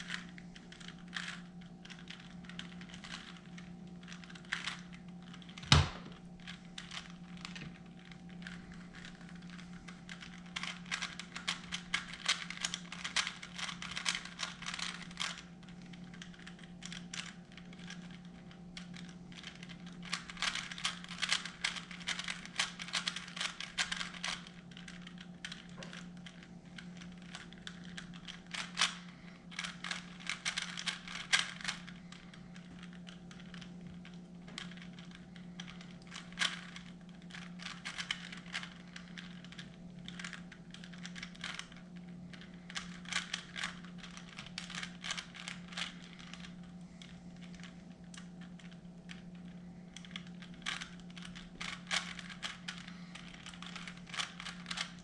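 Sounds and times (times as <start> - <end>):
plastic puzzle cube clicking: 4.0 - 26.4, 27.0 - 31.9, 32.8 - 41.8, 42.7 - 49.2, 50.0 - 55.0.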